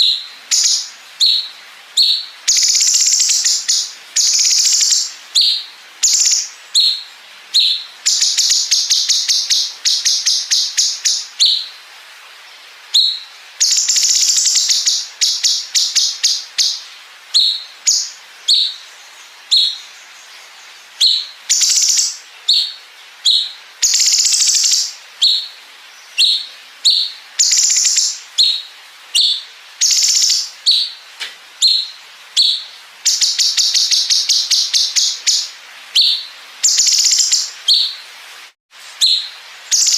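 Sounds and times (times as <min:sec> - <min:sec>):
bird singing rattling trills: 0:00.0 - 0:11.7, 0:12.9 - 0:31.0, 0:31.6 - 0:38.0, 0:39.0 - 0:39.9.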